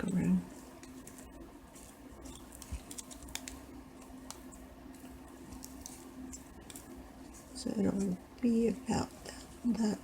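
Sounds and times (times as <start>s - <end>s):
ribbon rustling and clicking: 0.0s - 8.2s
faint steady hum: 0.0s - 10.0s.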